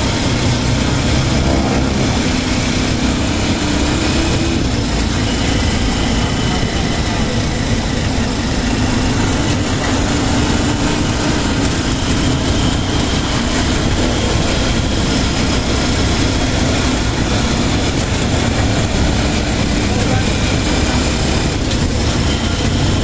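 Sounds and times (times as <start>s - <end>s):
vehicle engine droning: 0.0s - 23.0s
wind and road noise: 0.0s - 23.0s.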